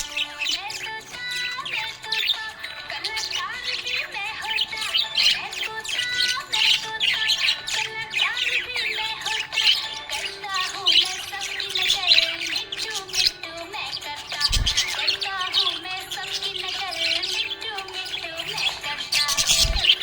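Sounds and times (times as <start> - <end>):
background music: 0.0 - 20.0
budgerigar chirping: 0.0 - 20.0.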